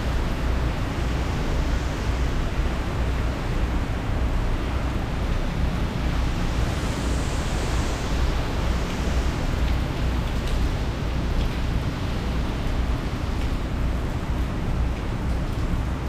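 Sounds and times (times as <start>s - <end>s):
driving rain hiss: 0.0s - 16.0s.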